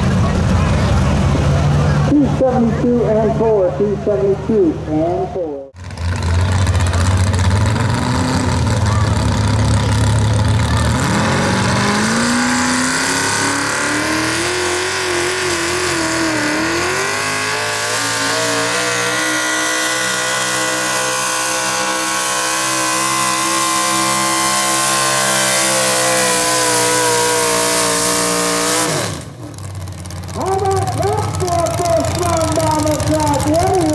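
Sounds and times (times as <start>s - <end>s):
truck engine revving: 0.0s - 33.9s.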